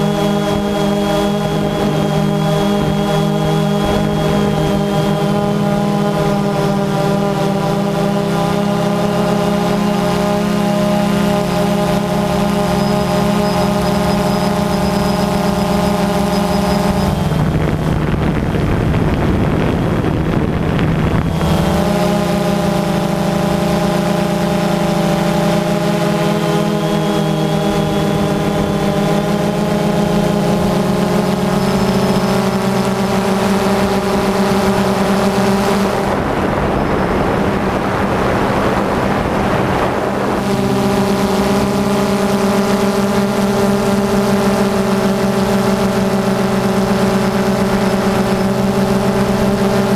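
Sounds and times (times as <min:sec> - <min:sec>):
drone propellers humming: 0:00.0 - 0:49.9
wind noise: 0:00.0 - 0:49.9.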